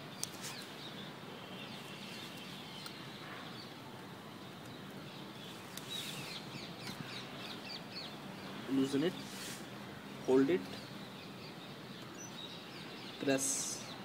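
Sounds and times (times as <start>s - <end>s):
birds chirping faintly: 0.0s - 14.0s
steady low hiss: 0.0s - 14.0s.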